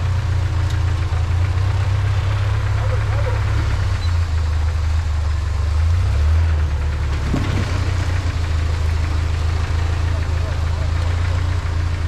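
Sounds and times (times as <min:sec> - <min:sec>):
truck engine low drone: 0:00.0 - 0:12.0.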